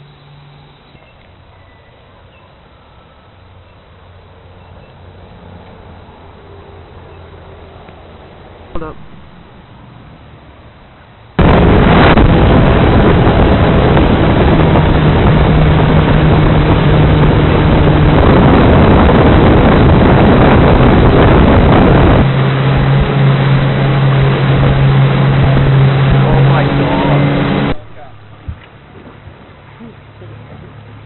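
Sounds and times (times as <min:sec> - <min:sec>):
low boat engine hum: 0:00.0 - 0:31.0
motorboat rushing water: 0:00.0 - 0:31.0.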